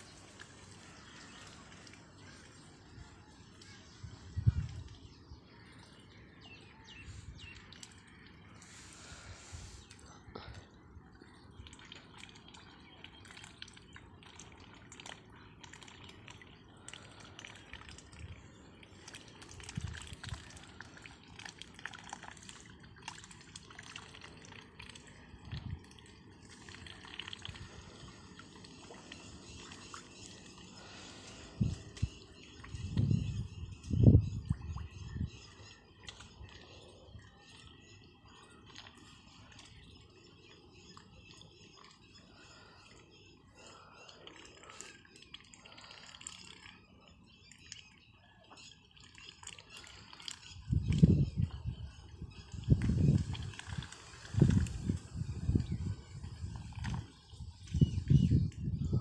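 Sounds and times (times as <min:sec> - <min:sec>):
ducks dabbling in water: 0:00.0 - 0:59.0.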